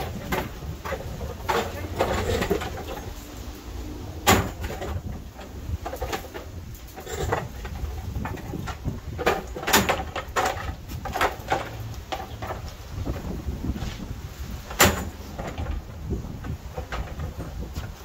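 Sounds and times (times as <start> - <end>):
folding chairs clattering: 0.0 - 18.0.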